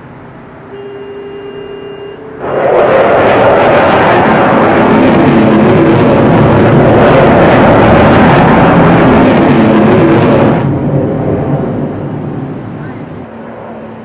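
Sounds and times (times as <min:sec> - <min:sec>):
fighter jet flying past: 0:02.2 - 0:14.0.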